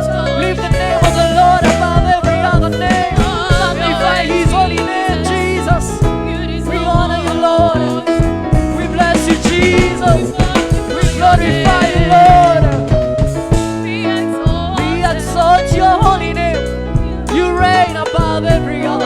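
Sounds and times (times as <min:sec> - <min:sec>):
person singing: 0:00.0 - 0:13.0, 0:13.8 - 0:19.0
band with drums and bass: 0:00.0 - 0:19.0.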